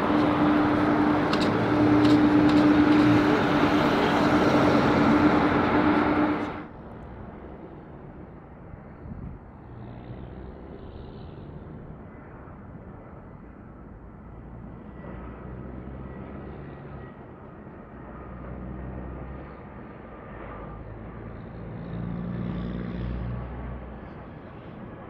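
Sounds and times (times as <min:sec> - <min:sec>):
faint jet whine: 0:00.0 - 0:09.7, 0:10.3 - 0:22.8
distant jet engines rumbling: 0:00.0 - 0:25.0.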